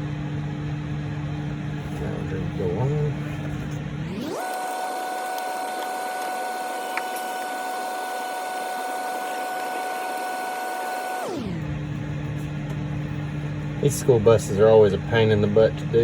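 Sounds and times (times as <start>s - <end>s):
high machine whine: 0.0s - 16.0s.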